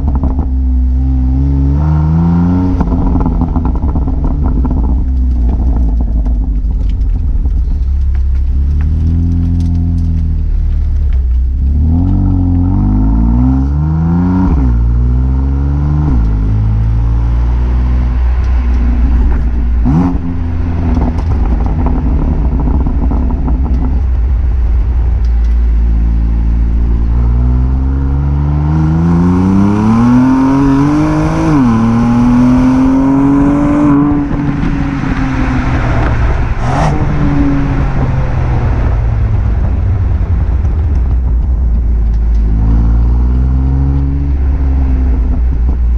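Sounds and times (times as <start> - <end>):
car engine accelerating: 0.0 - 45.9
exhaust cracks: 0.0 - 45.9.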